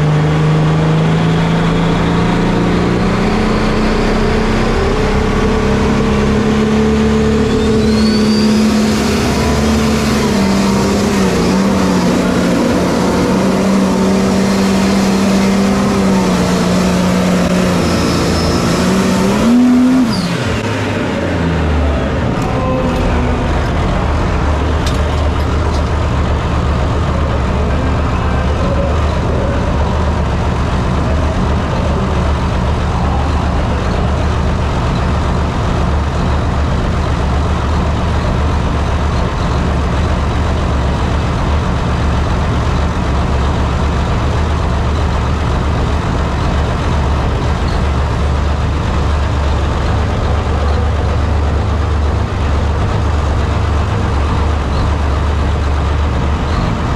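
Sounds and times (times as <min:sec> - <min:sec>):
heavy engine idling: 0:00.0 - 0:56.9.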